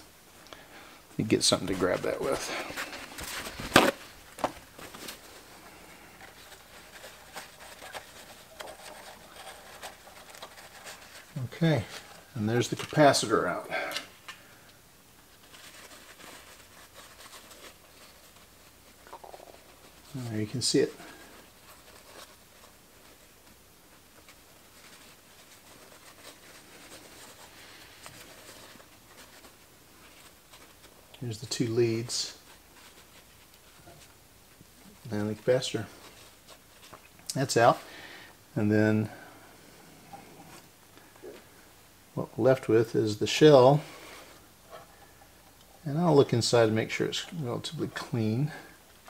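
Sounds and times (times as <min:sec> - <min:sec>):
paper towel rustling: 0:00.7 - 0:49.0.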